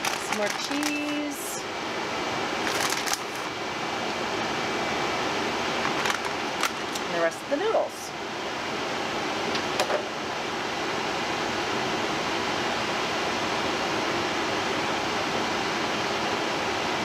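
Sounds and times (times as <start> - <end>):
fan noise rushing: 0.0 - 17.0.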